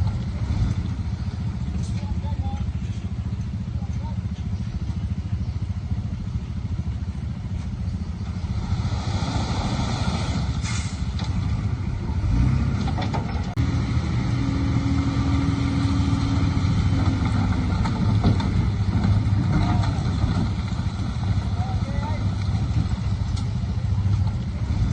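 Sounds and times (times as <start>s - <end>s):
heavy diesel engine rumbling: 0.0s - 24.9s.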